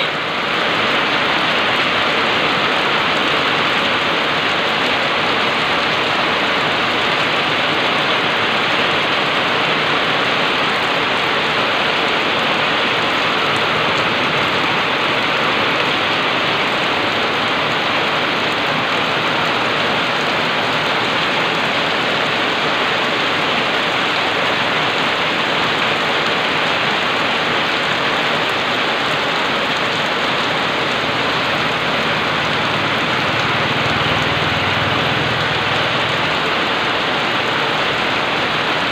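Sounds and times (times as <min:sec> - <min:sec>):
heavy rain on road and leaves: 0:00.0 - 0:38.9.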